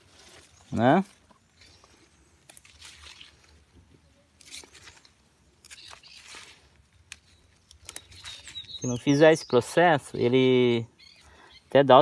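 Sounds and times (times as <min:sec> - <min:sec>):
plant stems crackling: 0:00.0 - 0:11.4
leaves rustling: 0:00.0 - 0:12.0.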